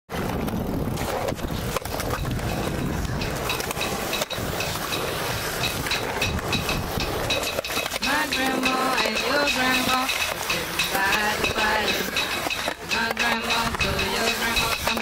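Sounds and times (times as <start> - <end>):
skateboard clacks: 0.1 - 15.0
skateboard wheels rolling on concrete: 0.1 - 15.0.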